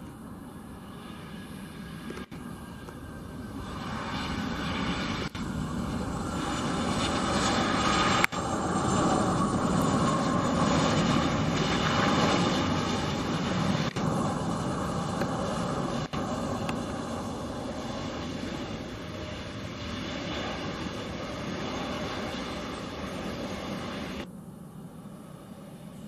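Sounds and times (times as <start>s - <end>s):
jet engine whine: 0.0s - 26.0s.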